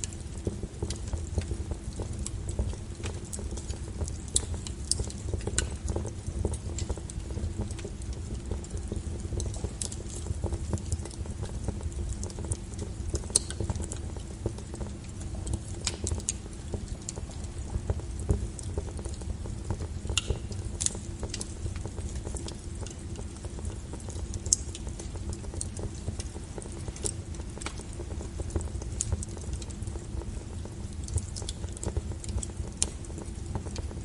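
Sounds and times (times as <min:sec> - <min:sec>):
burning logs crackling and popping: 0:00.0 - 0:34.0
wood fire rumbling: 0:00.0 - 0:34.0.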